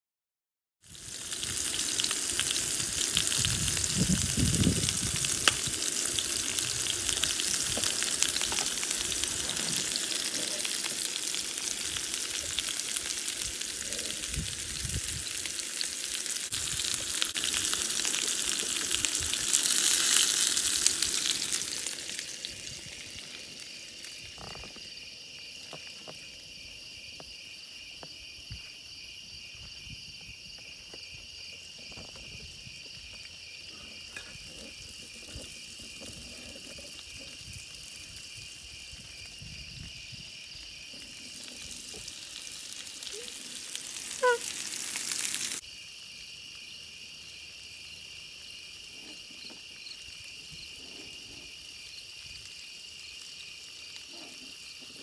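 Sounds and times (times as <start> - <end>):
chicken sizzling on a grill: 0.8 - 25.5, 33.4 - 45.6, 46.5 - 55.0
crickets chirping: 0.9 - 55.0.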